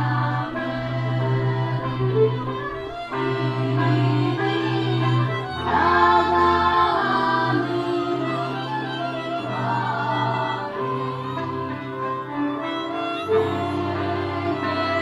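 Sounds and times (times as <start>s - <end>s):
folk band with fiddles: 0.0s - 15.0s
voices singing: 0.0s - 15.0s.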